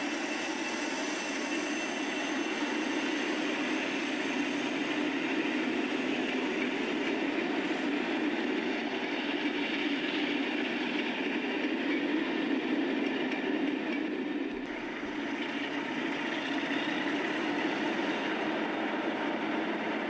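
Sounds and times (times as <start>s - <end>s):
train running on track: 0.0s - 20.0s.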